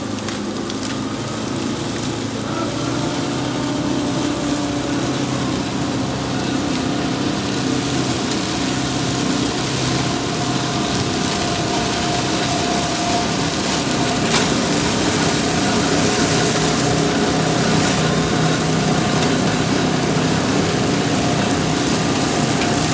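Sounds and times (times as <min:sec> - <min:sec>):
cutting machine motor humming: 0:00.0 - 0:22.9.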